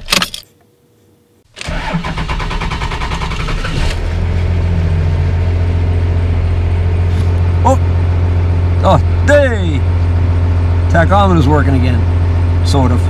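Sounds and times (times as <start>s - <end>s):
starter cranking diesel engine: 1.5s - 13.0s
diesel engine idling: 1.6s - 13.0s.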